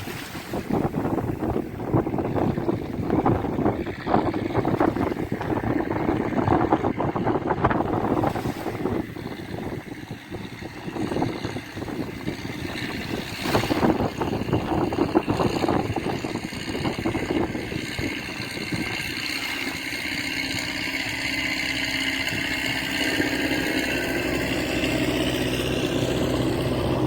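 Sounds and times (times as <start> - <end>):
steady engine hum: 0.0 - 27.0
wind buffeting microphone: 0.0 - 27.0.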